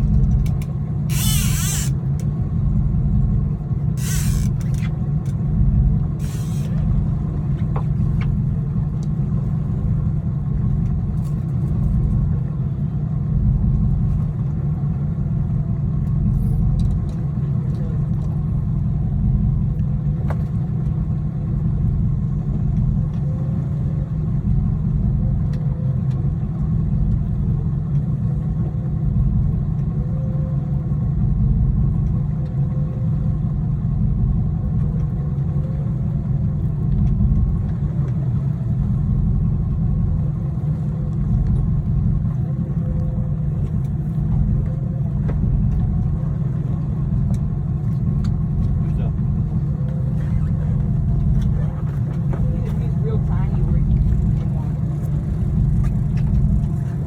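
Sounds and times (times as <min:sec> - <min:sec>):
engine running with low rumble: 0:00.0 - 0:57.0.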